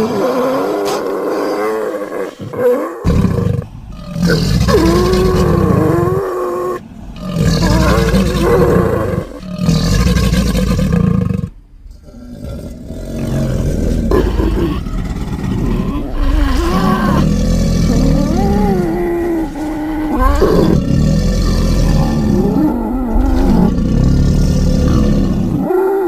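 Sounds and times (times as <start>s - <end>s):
creature roaring: 0.0s - 11.4s, 12.0s - 26.0s.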